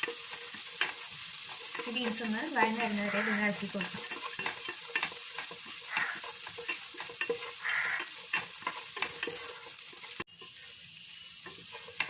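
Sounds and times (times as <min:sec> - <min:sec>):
spatula scraping and tapping pan: 0:00.0 - 0:10.8, 0:11.4 - 0:12.0
beans sizzling in a pan: 0:00.0 - 0:12.0.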